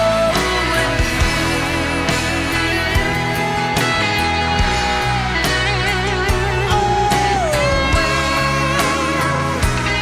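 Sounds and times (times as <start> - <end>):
rock ballad instrumental: 0.0 - 10.0.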